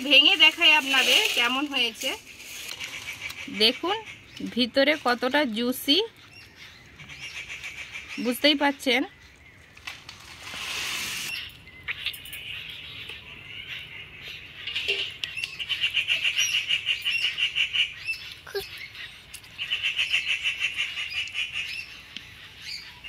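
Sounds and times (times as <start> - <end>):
bird trilling chatter: 0.0 - 9.2, 11.1 - 23.0.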